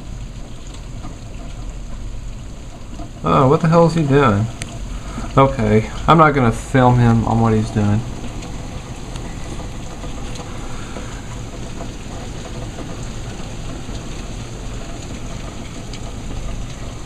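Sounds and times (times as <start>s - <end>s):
hail and heavy rain: 0.0s - 17.0s
hailstones ticking: 0.0s - 17.0s.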